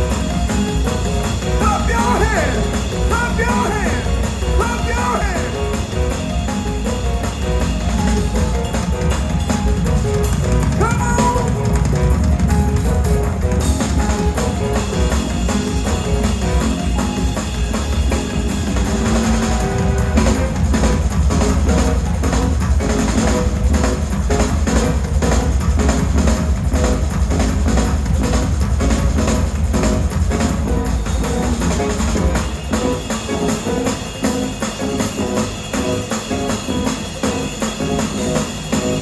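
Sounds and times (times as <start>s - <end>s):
bass drum and snare beat: 0.0s - 39.0s
gospel band playing: 0.0s - 39.0s.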